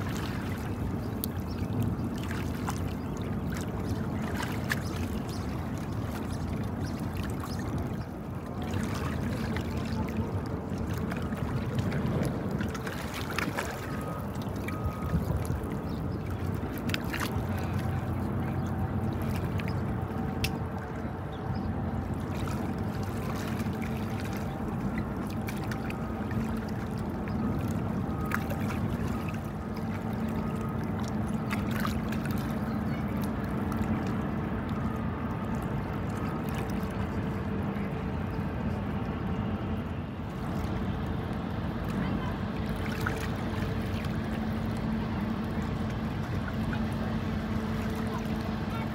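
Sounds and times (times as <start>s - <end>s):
water splashing: 0.0s - 39.2s, 39.8s - 48.9s
boat engines rumbling: 0.0s - 48.9s.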